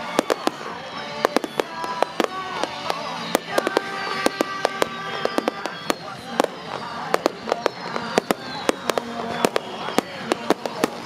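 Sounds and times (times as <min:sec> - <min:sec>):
fireworks bangs and crackles: 0:00.0 - 0:11.0
pitched firework tones: 0:00.0 - 0:11.0.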